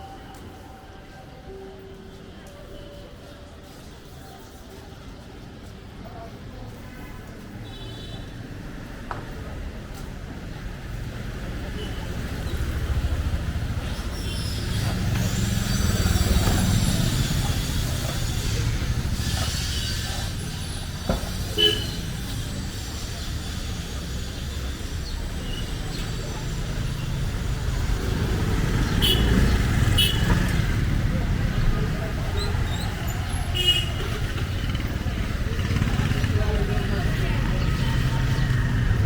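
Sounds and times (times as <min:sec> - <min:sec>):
street noise: 0:00.0 - 0:39.0.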